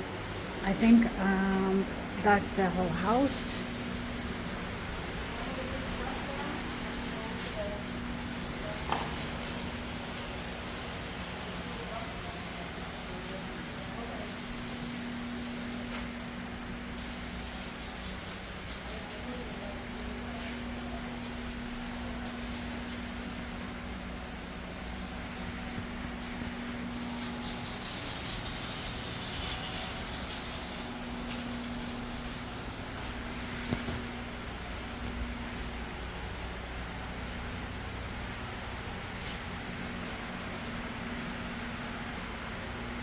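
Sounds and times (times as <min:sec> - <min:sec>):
steady hiss: 0:00.0 - 0:39.2.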